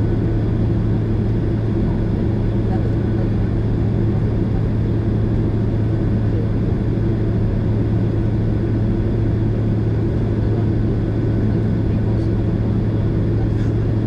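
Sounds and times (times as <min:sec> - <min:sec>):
airliner cabin hum: 0:00.0 - 0:14.0.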